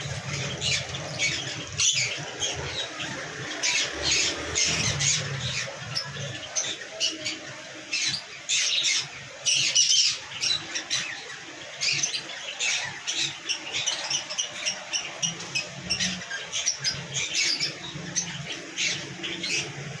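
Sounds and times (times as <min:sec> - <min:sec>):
lories squawking: 0:00.0 - 0:20.0.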